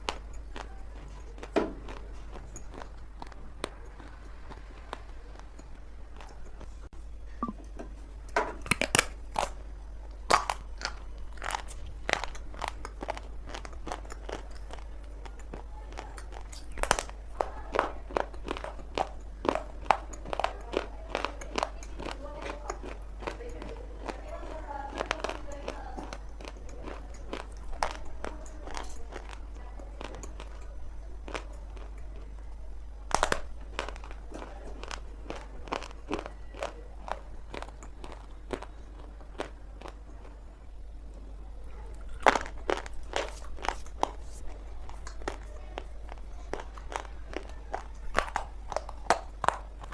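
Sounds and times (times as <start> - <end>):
clay lumps crunching when chewed: 0.0 - 49.9
steady low hum: 0.0 - 49.9.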